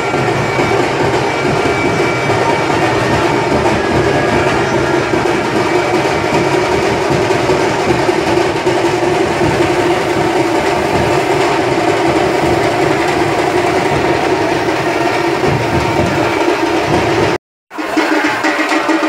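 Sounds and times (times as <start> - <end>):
fast dhol drumming: 0.0 - 19.0
large crowd noise: 0.0 - 19.0.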